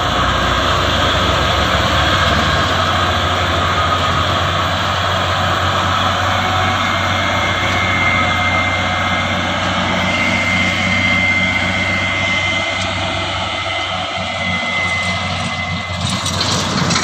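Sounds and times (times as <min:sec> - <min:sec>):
high steady whine: 0:00.0 - 0:17.0
truck engine running: 0:00.0 - 0:17.0.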